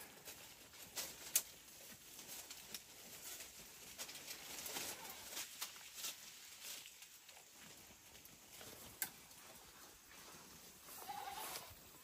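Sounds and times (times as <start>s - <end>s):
rustling in brush: 0.0s - 12.0s.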